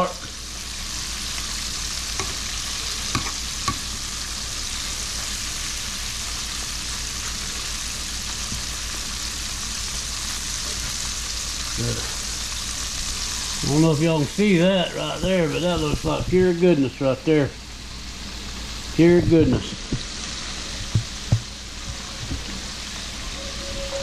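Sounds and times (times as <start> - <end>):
frog legs sizzling in a pan: 0.0 - 24.0.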